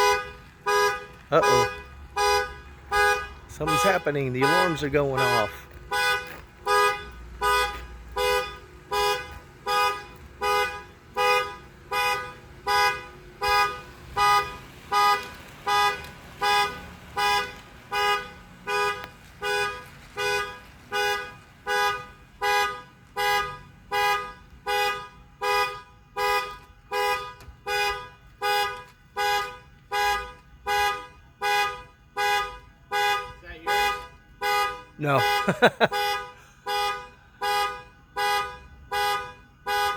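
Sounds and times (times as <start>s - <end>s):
car horn honking: 0.0s - 39.9s.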